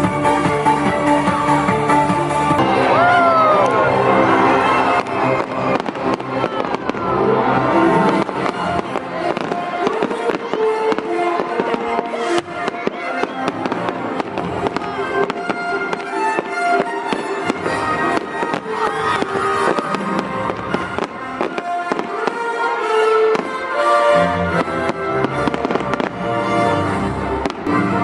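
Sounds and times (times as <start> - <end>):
music with sustained notes: 0.0 - 28.0
fireworks cracks and bangs: 2.6 - 23.8, 24.5 - 26.4, 27.3 - 28.0.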